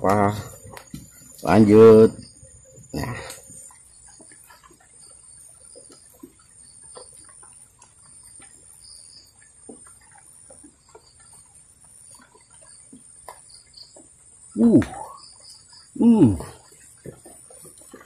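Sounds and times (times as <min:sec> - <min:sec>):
crickets chirring: 0:00.0 - 0:18.0
faint ticks and chirps: 0:00.0 - 0:18.0.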